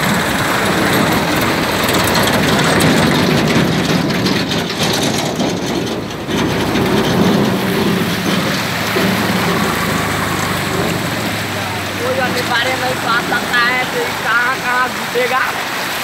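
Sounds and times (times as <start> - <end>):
tractor diesel engine running: 0.0 - 15.1
floodwater rushing and splashing: 0.0 - 16.0.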